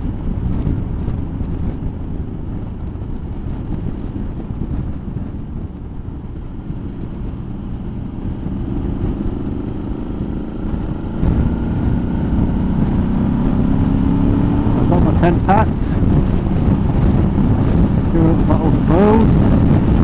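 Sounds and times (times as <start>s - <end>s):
low rush of riding noise: 0.0s - 20.0s
motorcycle engine running: 0.0s - 20.0s.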